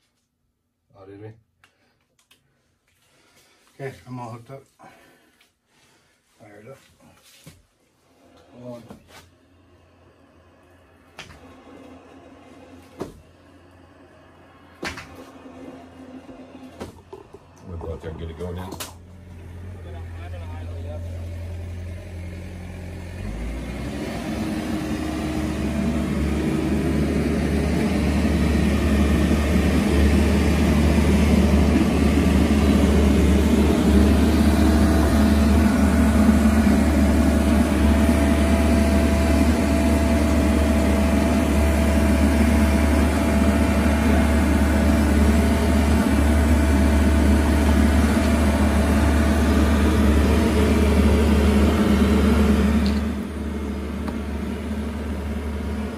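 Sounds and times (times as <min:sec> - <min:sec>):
hydraulic machinery humming: 0:08.0 - 0:55.9.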